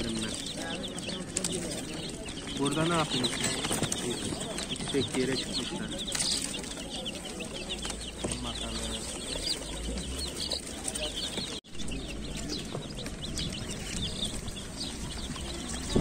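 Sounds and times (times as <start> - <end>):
baby chickens peeping: 0.0 - 16.0.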